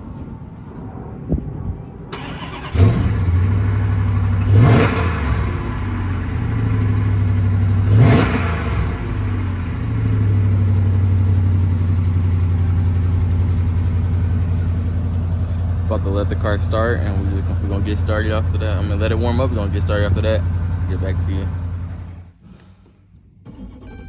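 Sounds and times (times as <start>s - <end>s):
car engine revving and idling: 2.2s - 22.4s.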